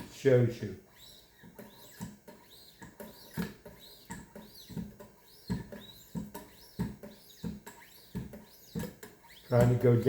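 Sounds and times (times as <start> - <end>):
sharpening stone strokes on knife: 0.9 - 9.5.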